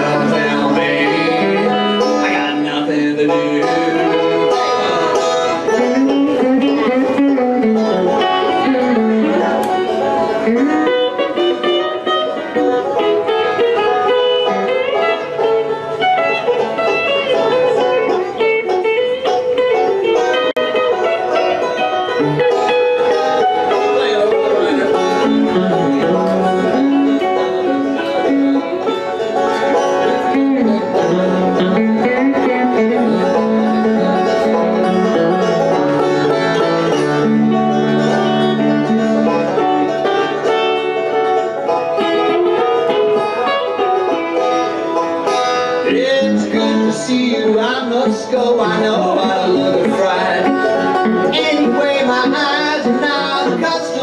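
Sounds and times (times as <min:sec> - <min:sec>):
banjo picking: 0:00.0 - 0:54.0
electric guitar: 0:00.0 - 0:54.0.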